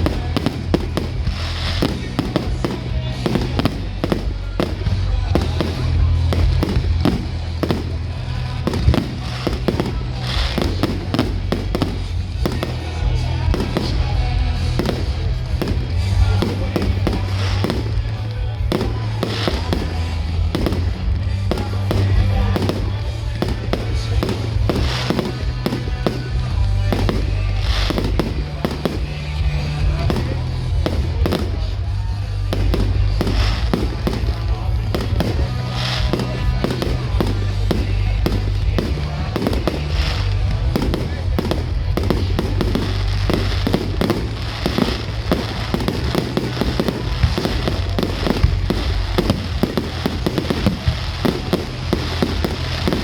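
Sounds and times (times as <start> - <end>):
fireworks bangs and crackling: 0.0 - 53.0
music with bass line: 0.0 - 53.0.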